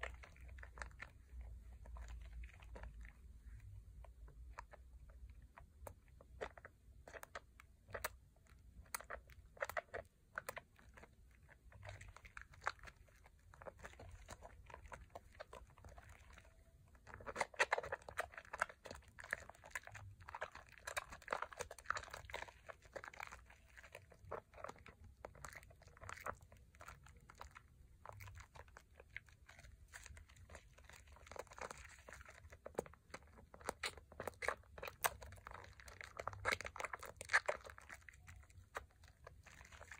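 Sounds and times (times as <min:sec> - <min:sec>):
soap lather squelching: 0:00.0 - 0:39.9.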